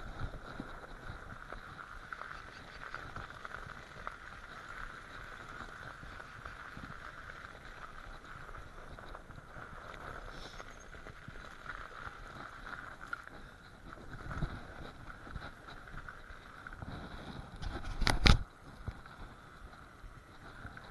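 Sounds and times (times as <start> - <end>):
electric bike rumbling and whining: 0.0 - 20.9.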